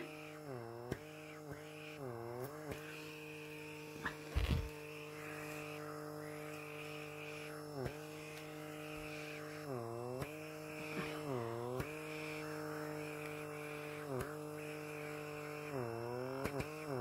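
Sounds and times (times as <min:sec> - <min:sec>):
small vacuum motor humming: 0:00.0 - 0:17.0.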